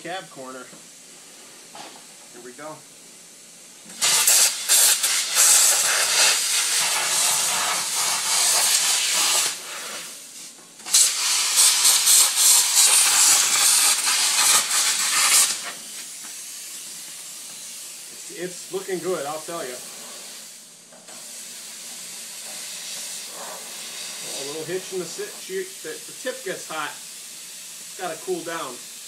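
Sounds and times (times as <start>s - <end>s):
plasma cutter hissing: 3.8s - 29.0s.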